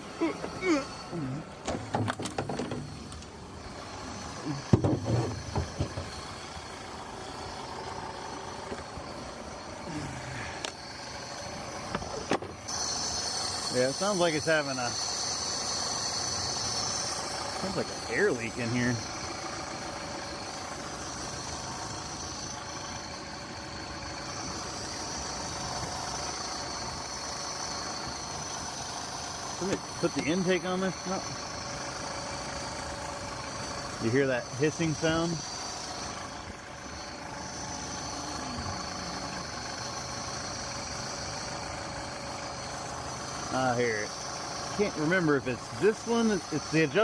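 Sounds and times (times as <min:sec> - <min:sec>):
outboard motor rough idle: 0:00.0 - 0:47.0.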